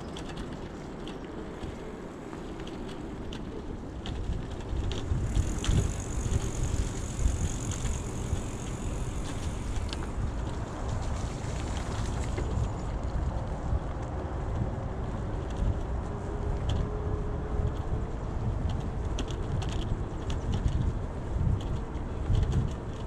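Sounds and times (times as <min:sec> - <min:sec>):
bike clicks and rattles: 0:00.0 - 0:23.0
tyre and wind rumble: 0:00.0 - 0:23.0.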